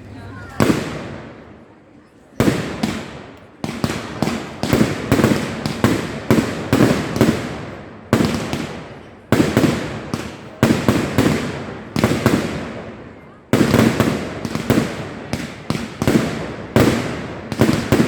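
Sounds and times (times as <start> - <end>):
firework bangs with rumbling echo: 0.6 - 1.5, 2.4 - 18.0.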